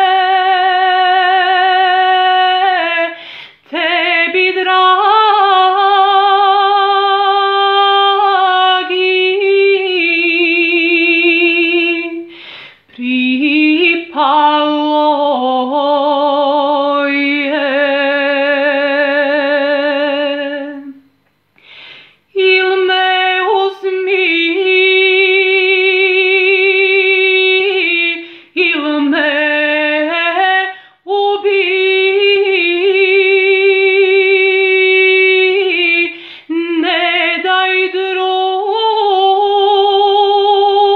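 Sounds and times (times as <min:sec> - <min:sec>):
woman singing unaccompanied: 0:00.0 - 0:21.1, 0:22.3 - 0:40.9.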